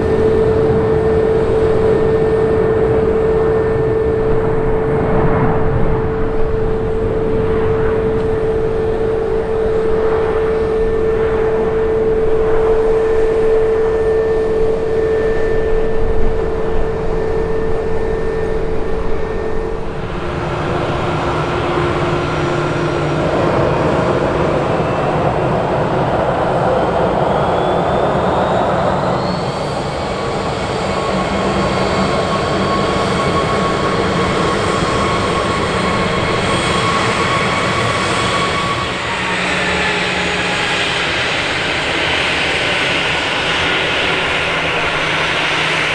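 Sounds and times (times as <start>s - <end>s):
jet engines whining at taxi: 0.0s - 45.9s
jet landing rush: 0.0s - 45.9s.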